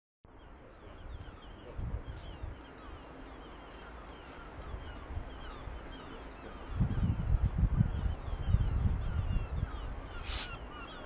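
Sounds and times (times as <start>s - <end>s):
birds chirping: 0.3s - 11.0s.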